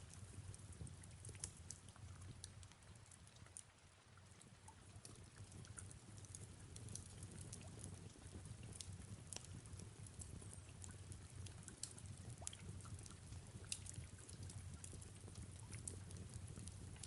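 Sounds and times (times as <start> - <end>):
fireplace crackling and popping: 0.0 - 17.0.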